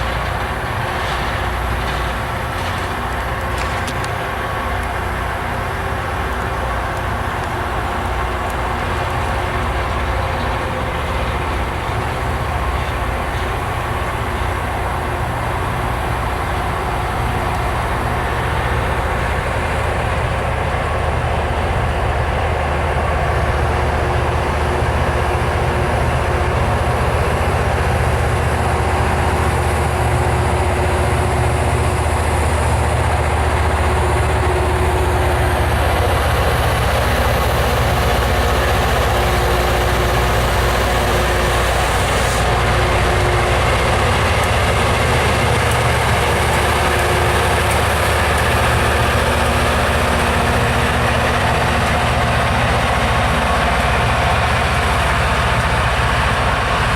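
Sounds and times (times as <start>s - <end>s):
diesel engines idling: 0.0s - 56.9s.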